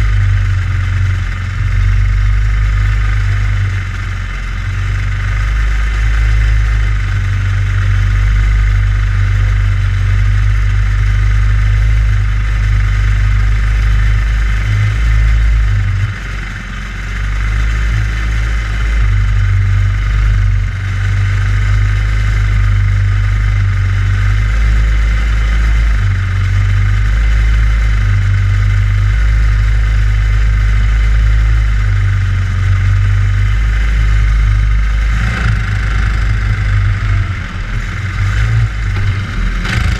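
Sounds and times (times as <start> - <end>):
go-kart engine idling: 0.0 - 39.9.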